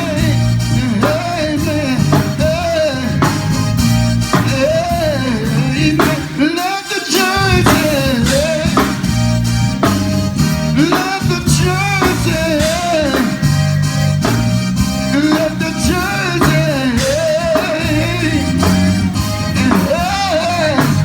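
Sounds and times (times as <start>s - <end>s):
held bass notes: 0.0s - 6.5s, 7.3s - 21.0s
person singing gospel: 0.0s - 21.0s
steady drum beat: 0.0s - 21.0s.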